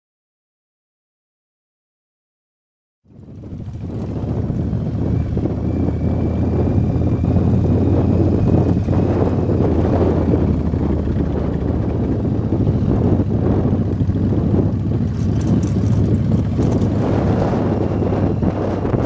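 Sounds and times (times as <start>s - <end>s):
motorcycle engine running: 3.0s - 19.0s
wind noise on microphone: 3.1s - 19.0s.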